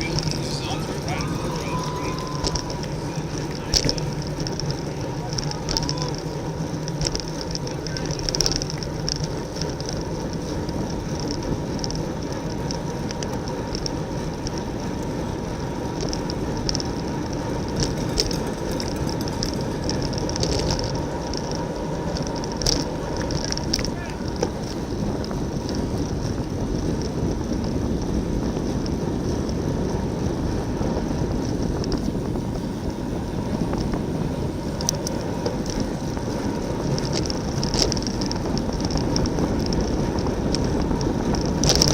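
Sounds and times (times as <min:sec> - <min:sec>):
bicycle tyre and drivetrain noise: 0:00.0 - 0:41.9
wind rush over microphone: 0:00.0 - 0:41.9.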